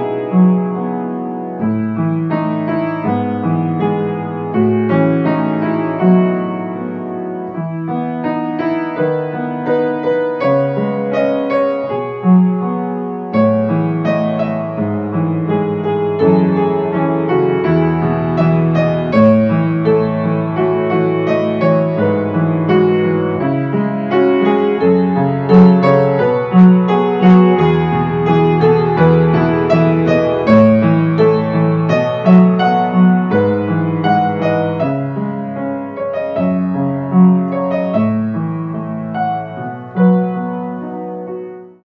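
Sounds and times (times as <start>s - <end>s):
instrumental piano music: 0.0s - 41.8s.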